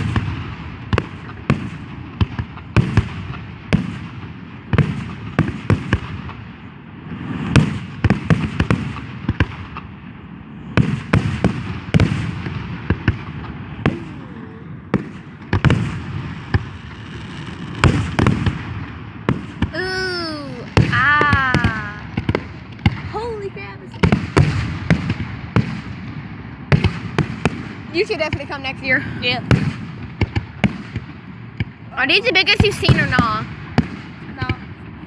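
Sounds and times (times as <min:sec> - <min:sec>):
continuous low rumble: 0:00.0 - 0:35.0
fireworks booms and cracks: 0:00.0 - 0:35.0.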